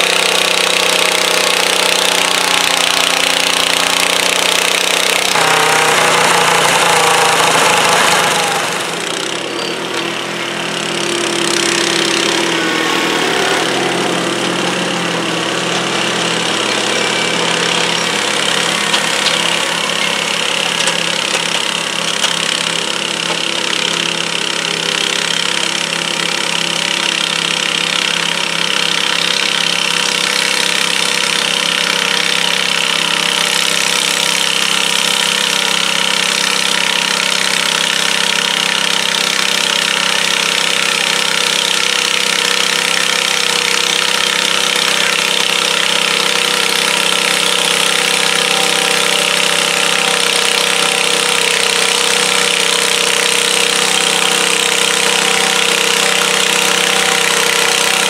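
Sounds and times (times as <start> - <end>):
garden tractor engines running: 0.0 - 58.0.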